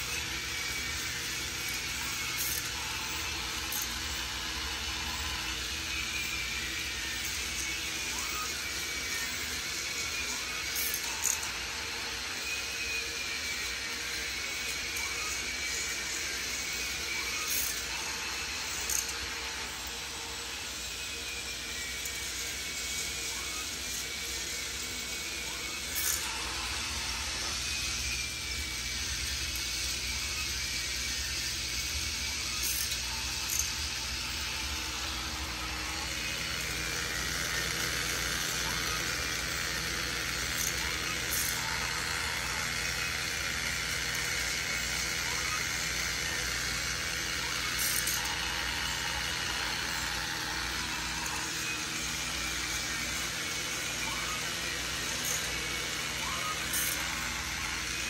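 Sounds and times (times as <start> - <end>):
toy motors whirring: 0.0 - 58.0.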